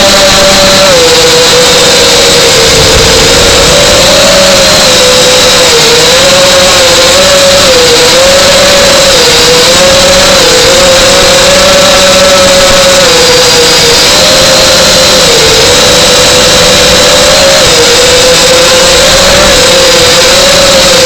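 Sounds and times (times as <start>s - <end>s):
model airplane motor droning: 0.0s - 21.0s.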